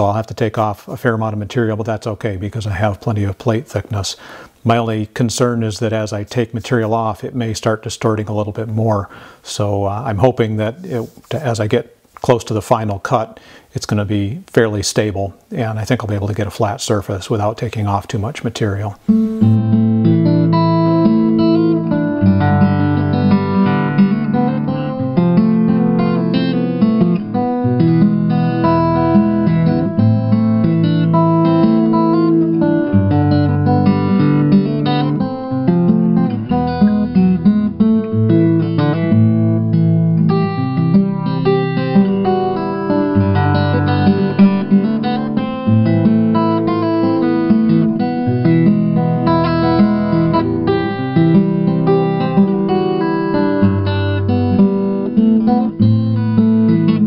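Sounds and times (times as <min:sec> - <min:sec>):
acoustic guitar playing chords: 0:00.0 - 0:57.0.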